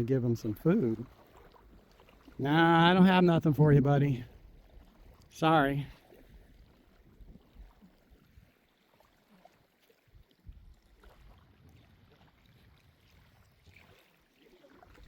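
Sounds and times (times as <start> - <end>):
water lapping at shore: 0.0 - 15.0.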